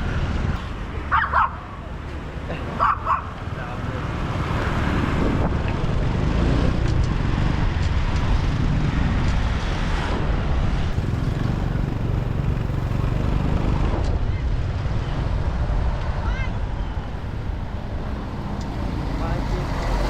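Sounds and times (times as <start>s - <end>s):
road noise: 0.0s - 20.0s
wind buffeting microphone: 3.7s - 20.0s.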